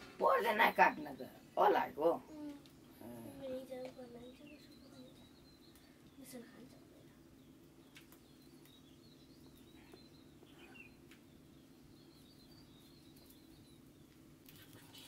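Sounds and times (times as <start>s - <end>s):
faint bird chirps: 0.0s - 15.0s
low steady hum: 0.0s - 15.0s.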